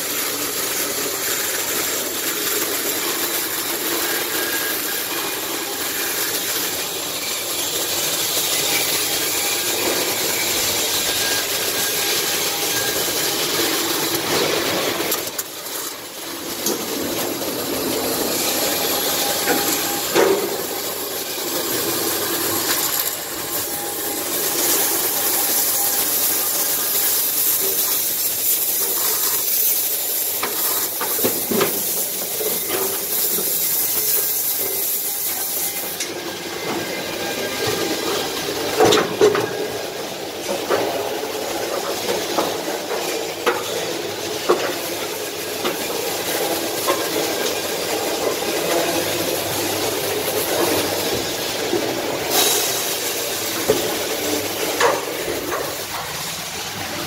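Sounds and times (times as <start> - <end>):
welding arc crackling hiss: 0.0 - 57.0.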